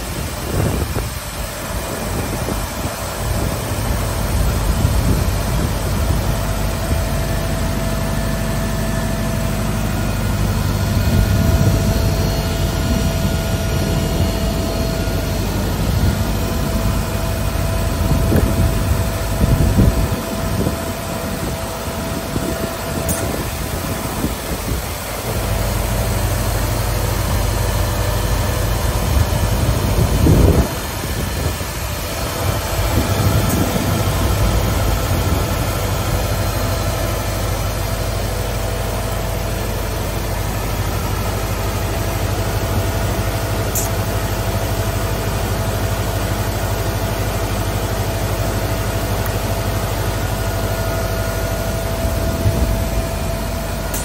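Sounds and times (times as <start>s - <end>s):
planer machine whining and rumbling: 0.0s - 54.0s.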